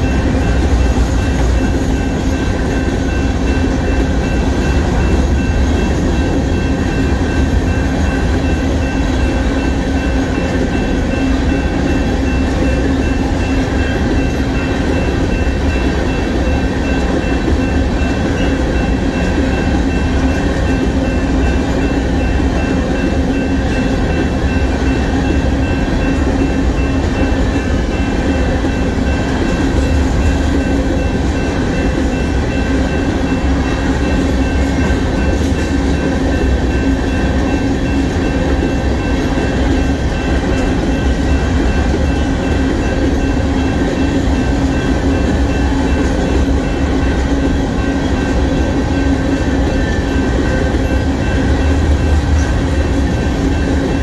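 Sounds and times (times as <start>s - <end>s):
crossing bell ringing: 0.0s - 54.0s
train wheels rumbling on rails: 0.0s - 54.0s.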